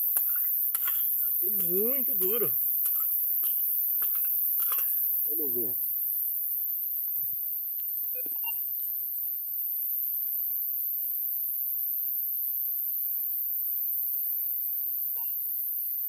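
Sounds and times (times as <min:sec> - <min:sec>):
insects chirping in chorus: 0:00.0 - 0:16.0.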